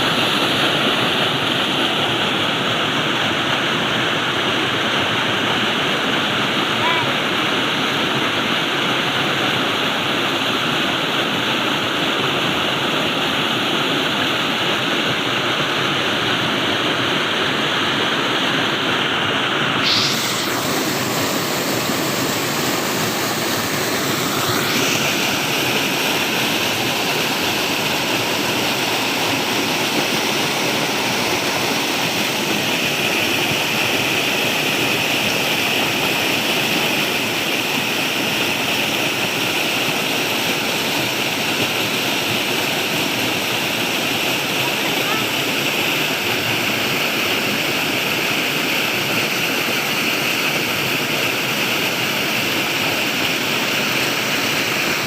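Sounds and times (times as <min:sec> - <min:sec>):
rushing flowing water: 0:00.0 - 0:55.0.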